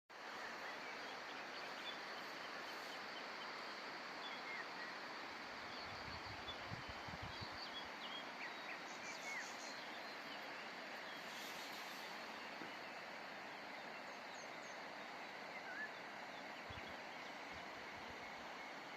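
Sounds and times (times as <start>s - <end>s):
small birds chirping: 0.2s - 18.9s.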